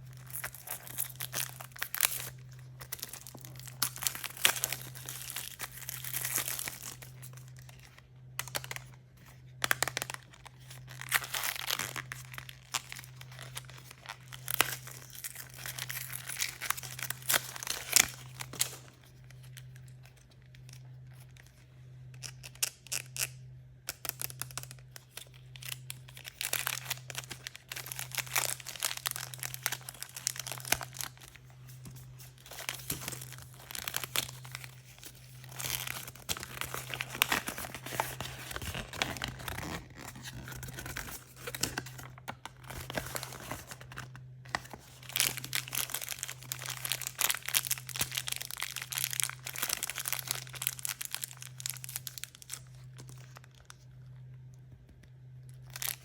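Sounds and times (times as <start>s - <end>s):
packaging crinkling and ripping: 0.0s - 54.4s, 55.0s - 56.0s
faint low hum: 0.0s - 56.0s.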